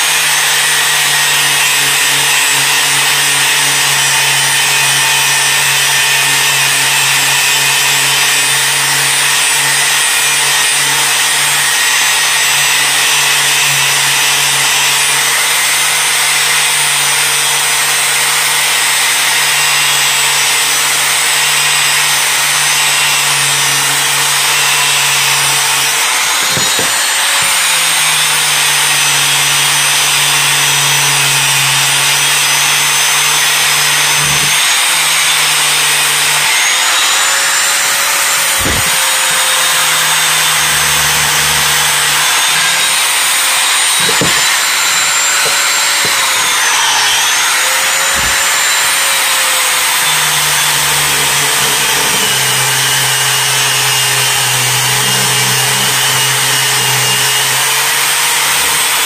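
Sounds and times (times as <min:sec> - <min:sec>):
angle grinder on metal: 0:00.0 - 0:59.0.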